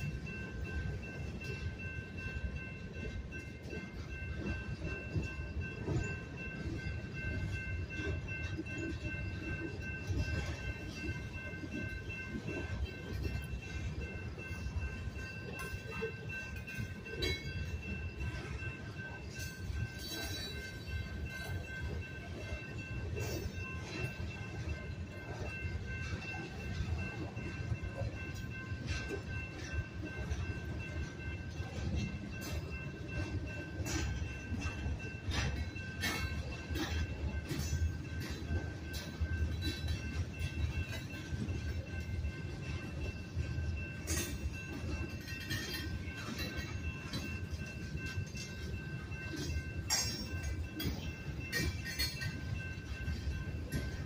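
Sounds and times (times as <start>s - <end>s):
crossing bell ringing: 0.0s - 54.0s
train cars clanking: 0.0s - 54.0s
train wheels rumbling: 0.0s - 54.0s.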